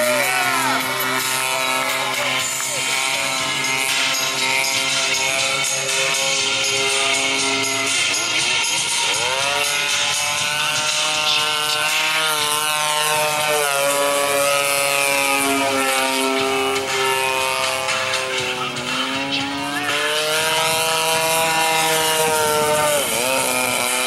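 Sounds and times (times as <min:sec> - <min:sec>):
model airplane engine and propeller: 0:00.0 - 0:24.0.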